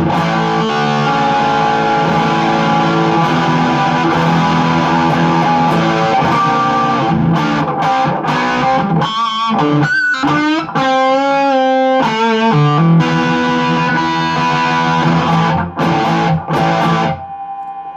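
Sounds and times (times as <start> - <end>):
distorted electric guitar: 0.0 - 17.8.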